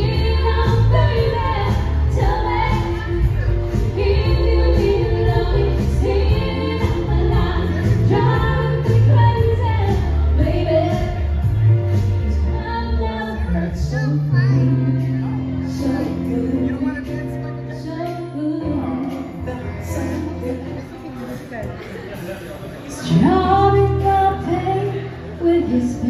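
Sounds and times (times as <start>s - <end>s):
women singing into microphones: 0.0s - 16.8s, 17.8s - 21.0s, 22.9s - 26.0s
amplified backing music: 0.0s - 26.0s.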